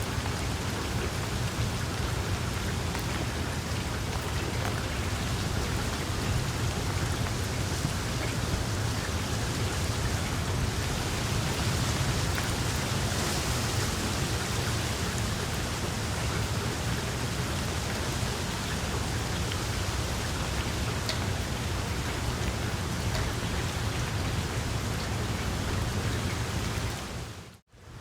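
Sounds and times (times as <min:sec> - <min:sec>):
faint fire crackles: 0:00.0 - 0:28.0.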